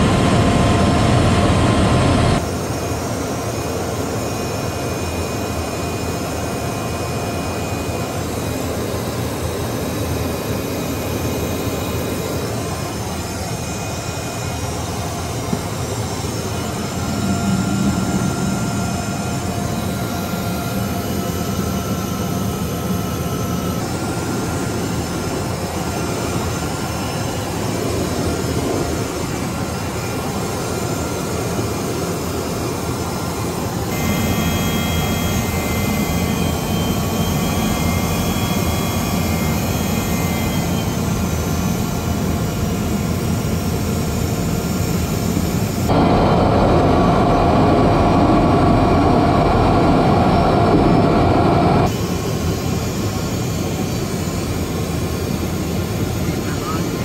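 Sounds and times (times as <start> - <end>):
jet engine noise: 0.0 - 57.0.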